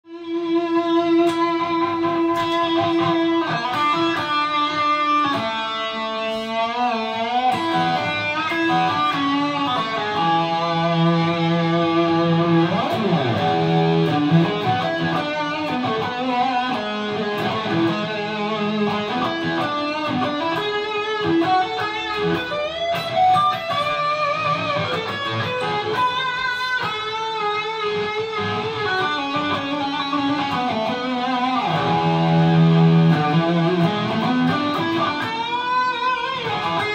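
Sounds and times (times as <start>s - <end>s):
electric guitar lead lines: 0.0s - 36.9s.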